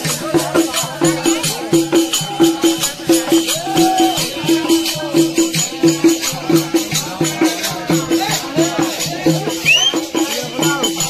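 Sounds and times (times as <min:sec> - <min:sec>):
hand drum beating: 0:00.0 - 0:11.0.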